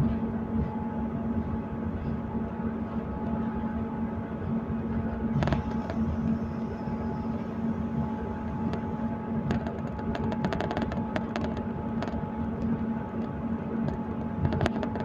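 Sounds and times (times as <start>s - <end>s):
train rumble inside carriage: 0.0s - 15.0s.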